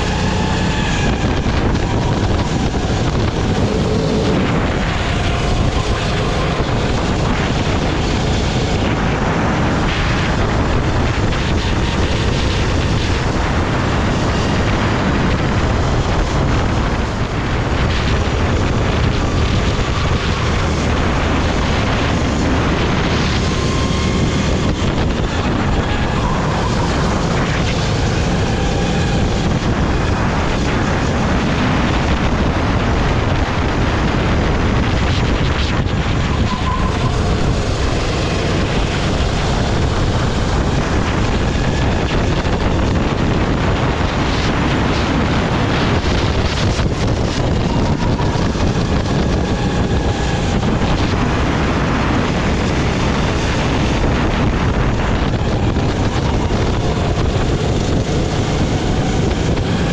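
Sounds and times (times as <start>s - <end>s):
kart engine running hard: 0.0s - 59.9s.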